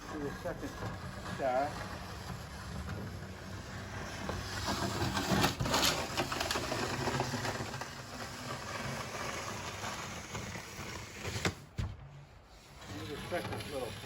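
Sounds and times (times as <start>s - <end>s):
crunching and scraping snow: 0.0s - 11.4s, 12.4s - 14.0s.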